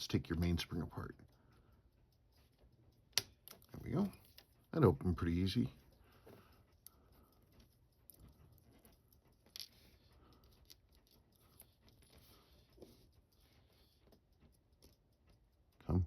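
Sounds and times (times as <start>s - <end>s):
small watch parts clicking: 0.0s - 16.0s.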